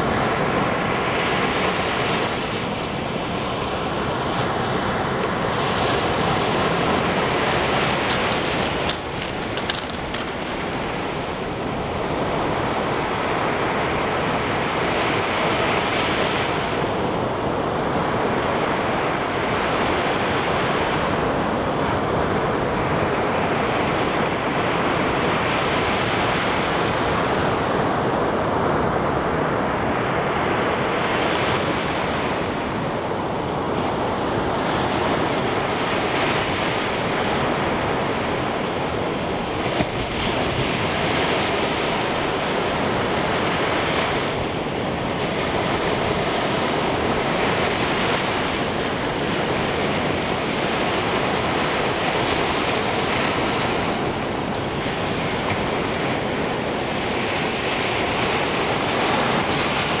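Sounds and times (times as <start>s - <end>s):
waves breaking on a sandy beach: 0.0s - 60.0s.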